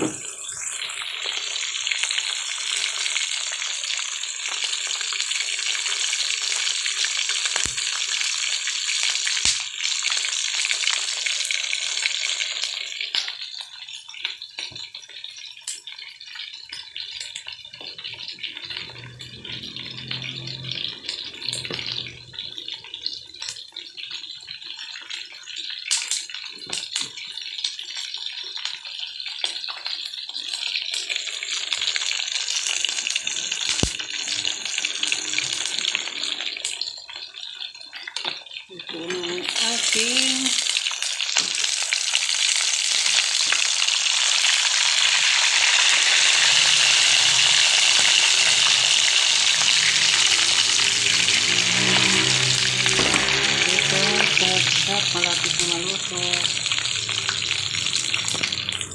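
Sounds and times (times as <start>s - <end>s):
meat sizzling in a pan: 0.0s - 58.9s.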